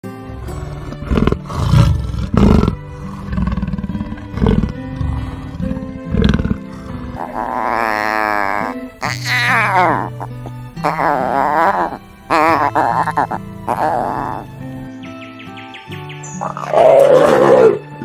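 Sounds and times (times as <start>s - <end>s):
background music: 0.0s - 18.0s
leopard roar-grunts: 0.3s - 14.6s, 16.4s - 18.0s
wavering animal call: 0.5s - 14.7s, 16.4s - 18.0s.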